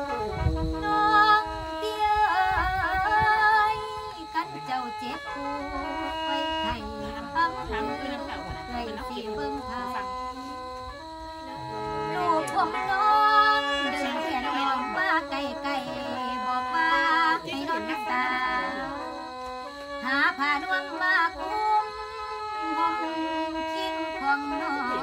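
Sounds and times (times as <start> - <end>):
woman singing: 0.0 - 10.6, 12.0 - 19.4, 20.0 - 25.0
mouth organ chords: 0.0 - 25.0.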